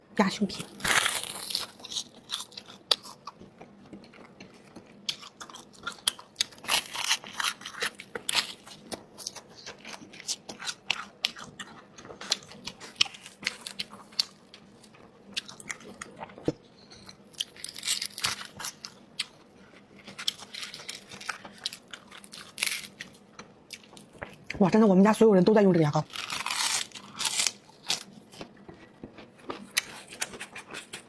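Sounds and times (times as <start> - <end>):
crunching and chewing crispy food: 0.5 - 24.6, 26.0 - 31.0.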